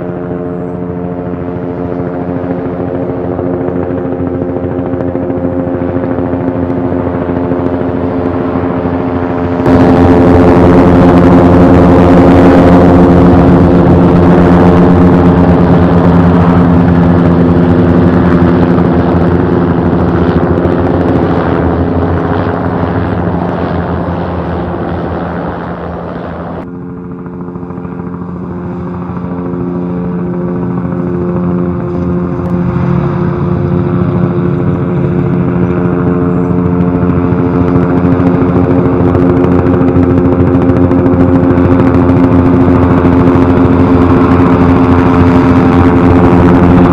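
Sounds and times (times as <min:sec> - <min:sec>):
helicopter rotor and engine: 0:00.0 - 0:46.9.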